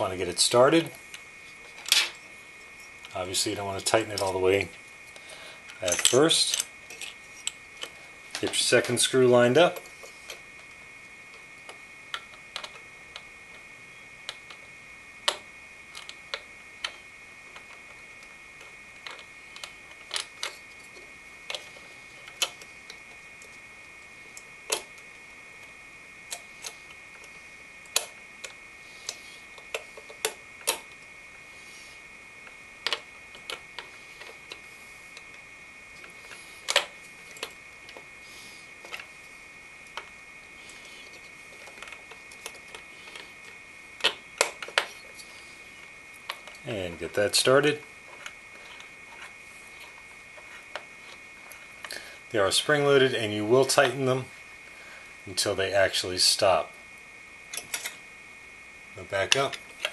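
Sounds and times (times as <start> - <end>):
faint high whine: 0.0 - 59.9.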